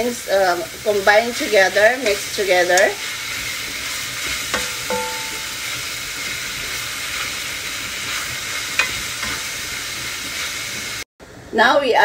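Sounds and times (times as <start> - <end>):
meat sizzling in a pan: 0.0 - 11.1.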